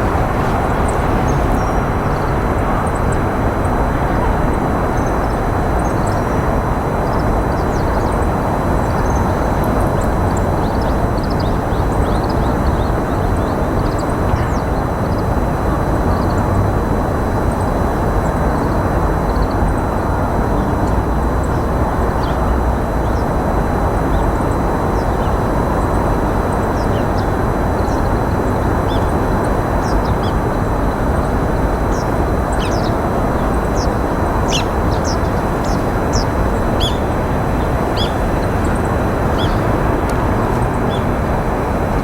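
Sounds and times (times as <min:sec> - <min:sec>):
small birds chirping: 0:00.0 - 0:15.4, 0:17.5 - 0:42.0
loud outdoor rushing noise: 0:00.0 - 0:42.0.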